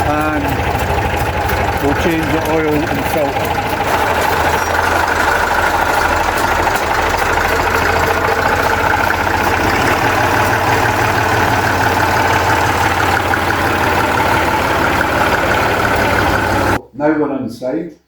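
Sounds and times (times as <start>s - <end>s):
tractor engine running: 0.0s - 16.8s.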